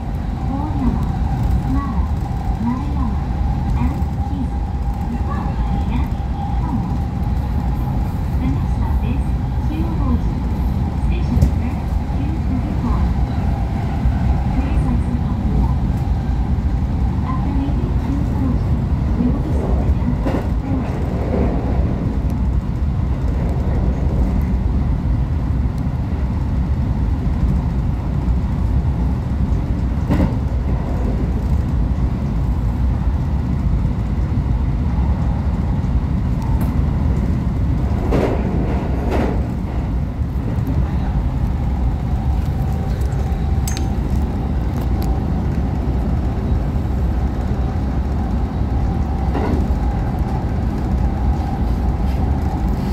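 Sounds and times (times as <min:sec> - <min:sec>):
train clacks: 0:00.0 - 0:24.8, 0:27.2 - 0:32.8, 0:36.2 - 0:52.9
train rumble: 0:00.0 - 0:52.9.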